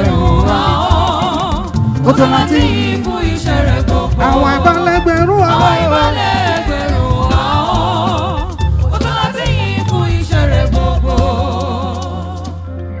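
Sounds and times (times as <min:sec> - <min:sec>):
church choir singing a hymn: 0:00.0 - 0:13.0.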